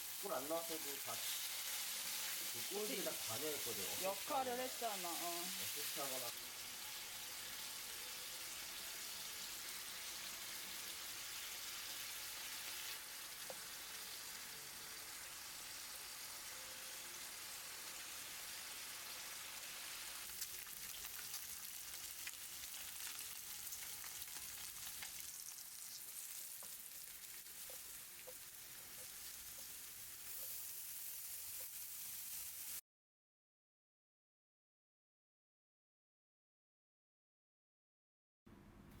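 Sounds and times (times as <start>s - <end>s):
food sizzling in a pan: 0.0s - 32.8s.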